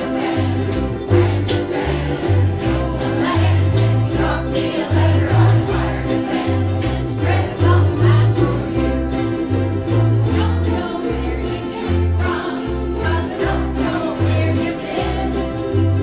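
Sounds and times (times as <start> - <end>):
crowd singing along: 0.0 - 16.0
ukuleles strumming: 0.0 - 16.0
walking bass line: 0.0 - 16.0.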